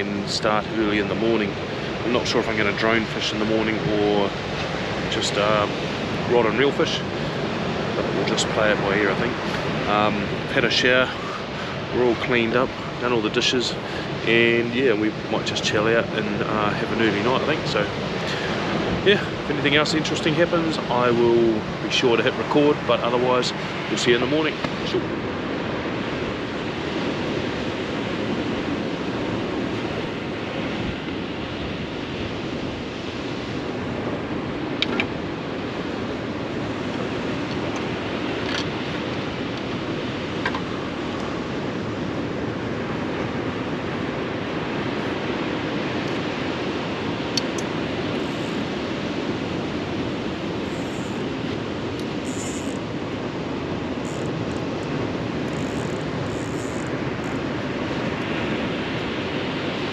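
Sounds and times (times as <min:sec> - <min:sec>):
ocean surf: 0:00.0 - 0:59.9
strong wind: 0:00.0 - 0:59.9.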